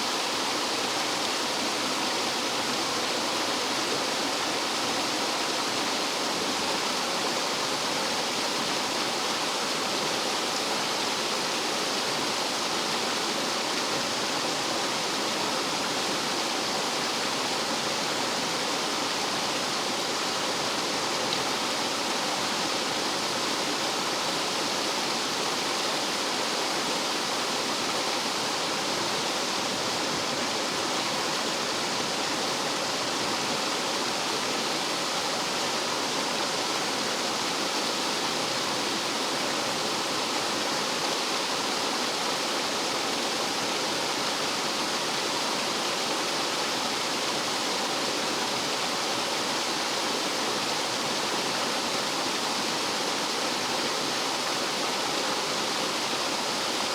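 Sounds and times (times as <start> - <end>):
stream water rushing over rocks: 0.0 - 56.9.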